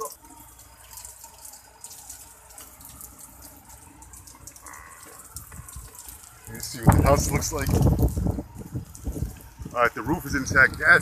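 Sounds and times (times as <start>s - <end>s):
water running and dripping: 0.0s - 11.0s.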